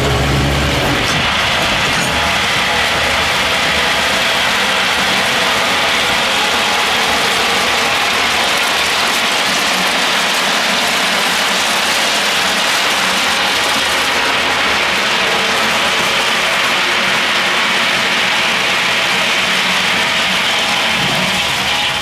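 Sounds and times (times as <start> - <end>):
stones pouring onto trackbed: 0.1 - 22.0.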